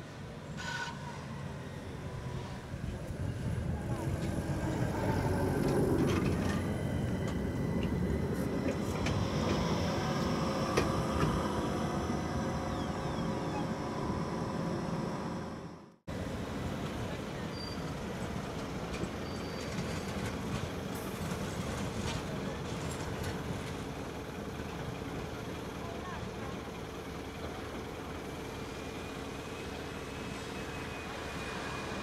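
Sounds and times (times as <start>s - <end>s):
tram wheel squeals: 0.0s - 15.8s, 17.3s - 24.1s, 27.6s - 32.0s
street noise: 0.0s - 32.0s
tram rolling on rails: 0.0s - 32.0s.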